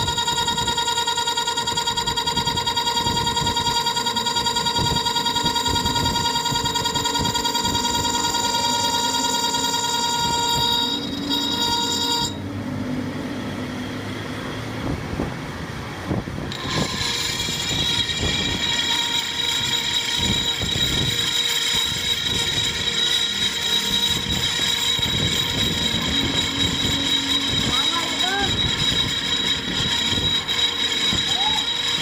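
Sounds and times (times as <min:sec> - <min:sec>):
workshop machinery whining: 0:00.0 - 0:32.0.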